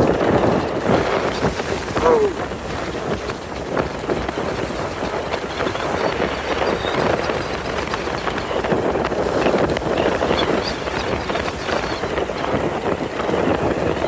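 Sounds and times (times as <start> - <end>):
skis scraping over snow: 0.0 - 14.0.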